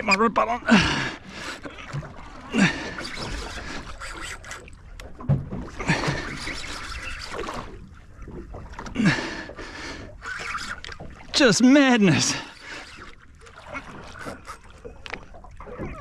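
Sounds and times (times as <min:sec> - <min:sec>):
water splashing around boat: 0:00.0 - 0:16.0.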